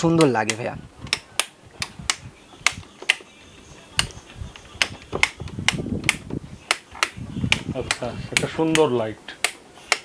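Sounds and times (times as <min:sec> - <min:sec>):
low background noise: 0:00.0 - 0:10.0
sharp clicks: 0:00.2 - 0:03.3, 0:03.9 - 0:10.0.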